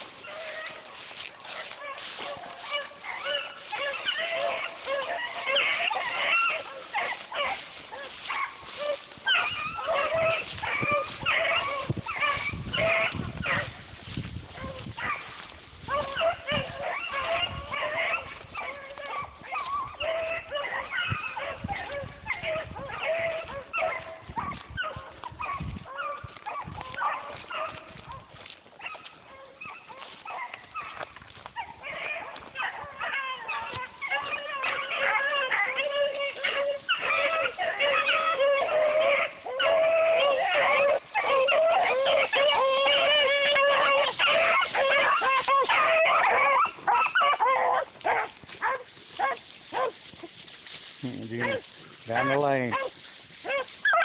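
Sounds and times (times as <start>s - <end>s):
dogs barking and howling: 0.0s - 54.0s.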